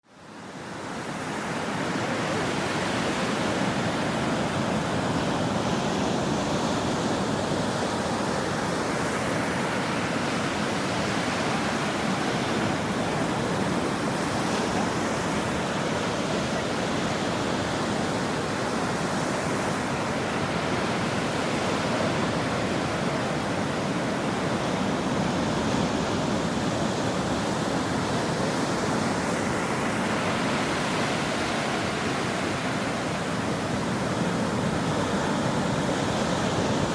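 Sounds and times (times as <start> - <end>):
ocean surf washing ashore: 0.2 - 36.9.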